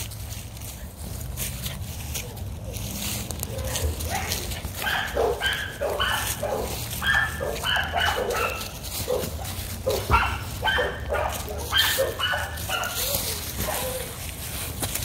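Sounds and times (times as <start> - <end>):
puppy yipping: 2.2 - 14.3.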